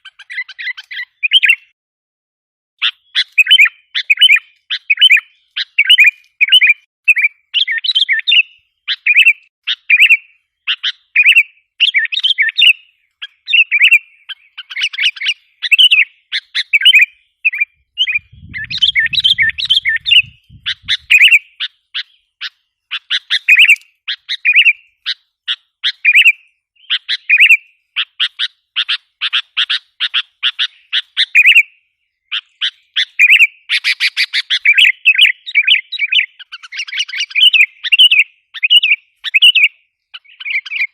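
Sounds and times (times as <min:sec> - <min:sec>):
bird chirping calls: 0:00.0 - 0:01.8, 0:02.8 - 0:40.9.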